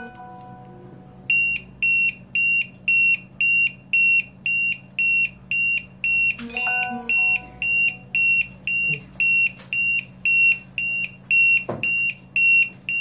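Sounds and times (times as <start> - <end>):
high-pitched alarm beeps: 1.3 - 13.0.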